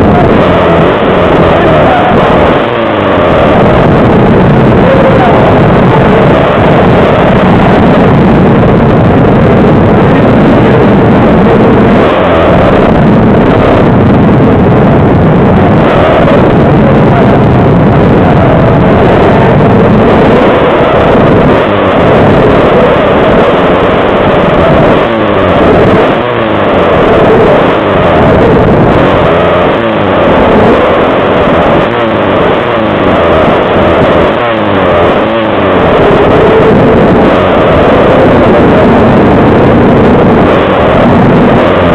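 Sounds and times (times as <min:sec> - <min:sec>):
pit bike engines revving: 0:00.0 - 0:41.9.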